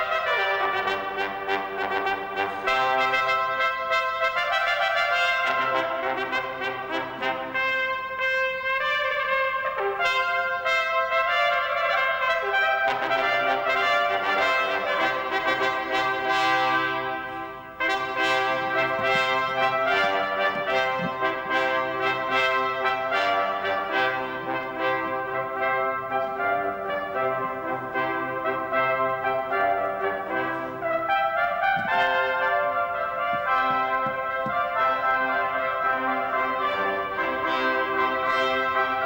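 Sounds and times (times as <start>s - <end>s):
trumpet ensemble playing: 0.0s - 39.0s.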